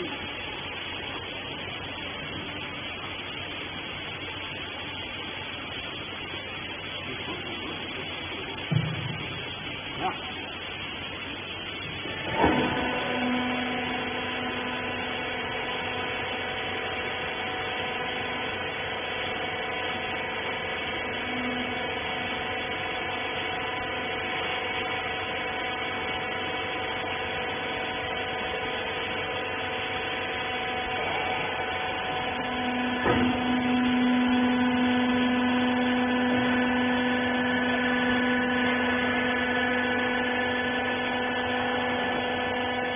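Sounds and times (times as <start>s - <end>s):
electric motor and pump humming: 0.0s - 42.9s.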